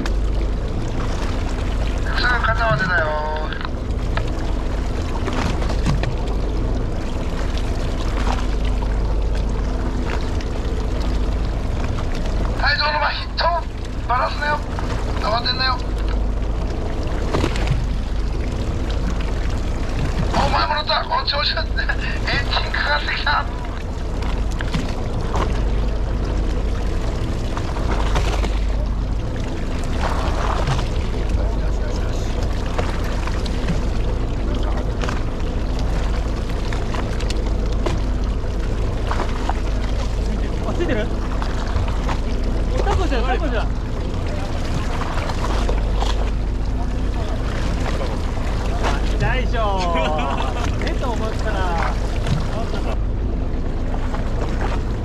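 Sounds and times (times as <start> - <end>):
boat engine humming: 0.0 - 55.0
water washing against hull: 0.0 - 55.0.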